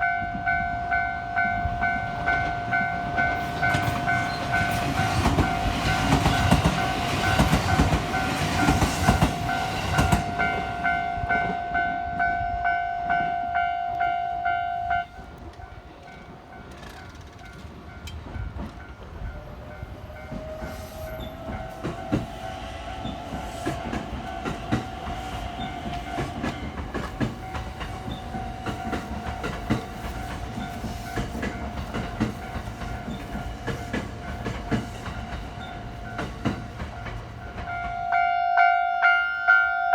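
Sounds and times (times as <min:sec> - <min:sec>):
train wheels clattering on rails: 0:00.0 - 0:12.4, 0:15.0 - 0:38.3
crossing warning bell ringing: 0:00.0 - 0:39.9
rising train whine: 0:00.0 - 0:39.9.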